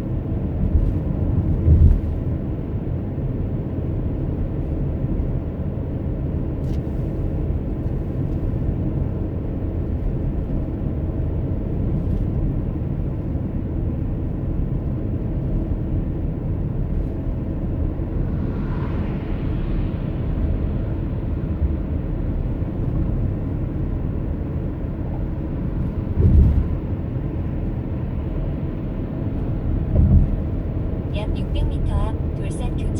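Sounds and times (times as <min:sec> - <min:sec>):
road and engine rumble: 0:00.0 - 0:32.9.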